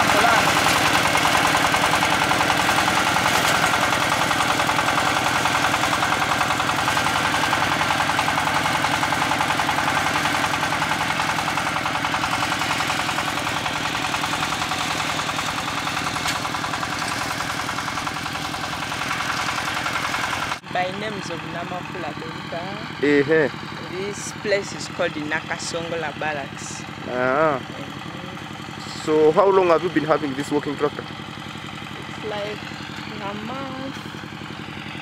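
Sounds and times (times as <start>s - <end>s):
diesel engine chugging: 0.0s - 35.0s.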